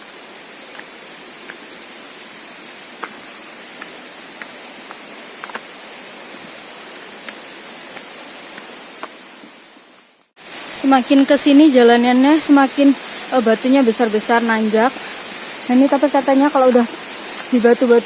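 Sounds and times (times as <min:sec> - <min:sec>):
thin high-pitched whine: 0:00.0 - 0:18.0.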